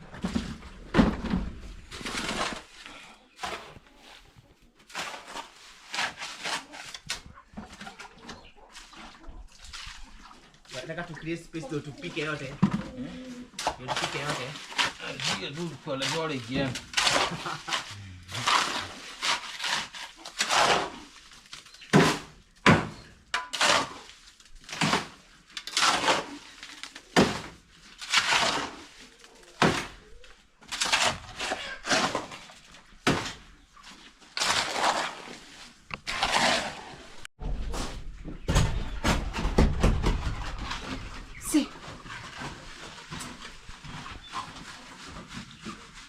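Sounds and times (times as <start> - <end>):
tool scraping wet cement: 0.1 - 8.2, 8.8 - 37.9.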